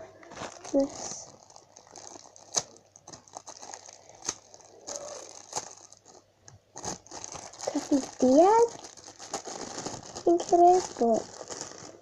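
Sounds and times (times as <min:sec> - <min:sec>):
plastic packaging crinkling: 0:00.1 - 0:12.0.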